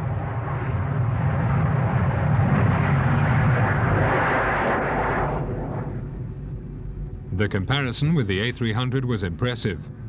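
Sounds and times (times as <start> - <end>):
jet airliner passing overhead: 0.0 - 10.0.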